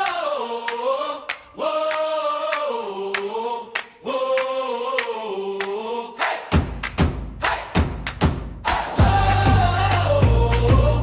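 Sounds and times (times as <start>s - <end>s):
wordless choir singing: 0.0s - 6.7s, 8.6s - 11.0s.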